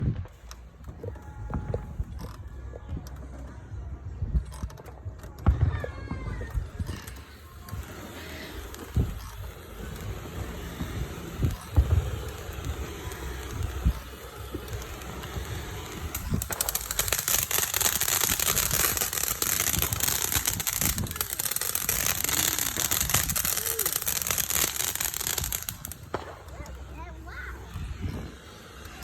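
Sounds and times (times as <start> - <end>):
firework crackling: 0.0 - 29.0.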